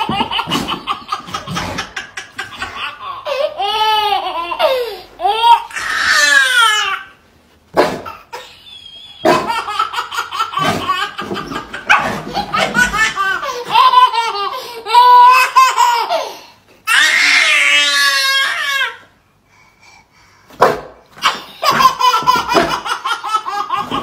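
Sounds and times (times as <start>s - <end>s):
baby laughing: 0.0s - 7.1s, 8.0s - 18.2s, 21.2s - 24.0s.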